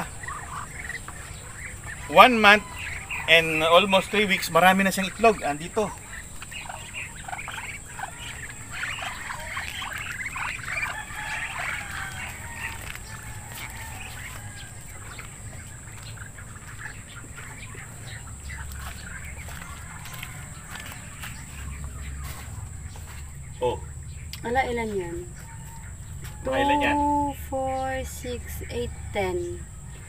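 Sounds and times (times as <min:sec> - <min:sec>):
ducklings peeping: 0:00.0 - 0:30.0.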